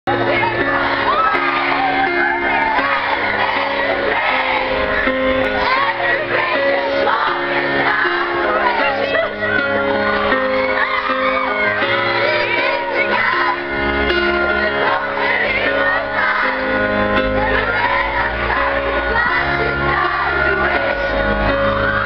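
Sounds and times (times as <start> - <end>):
audience shrieking and singing along: 0.1 - 22.0
live pop band music: 0.1 - 22.0.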